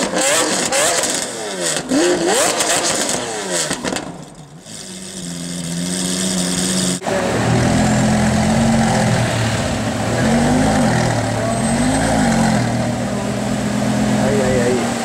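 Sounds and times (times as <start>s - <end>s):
sports car engine idling: 0.0s - 15.0s.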